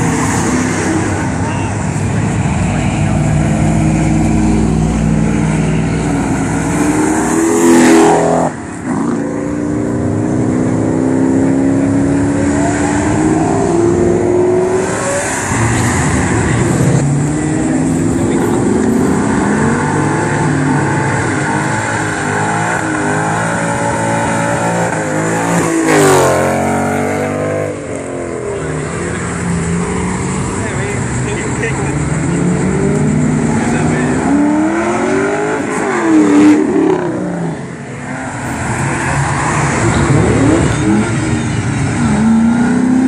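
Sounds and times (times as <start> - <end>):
car engines accelerating hard: 0.0 - 43.0.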